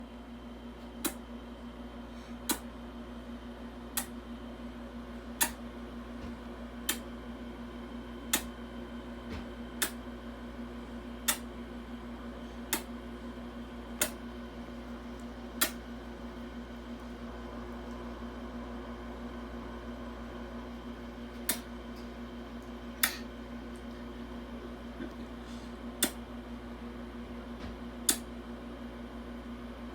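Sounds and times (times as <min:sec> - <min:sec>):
steady electrical hum: 0:00.0 - 0:29.9.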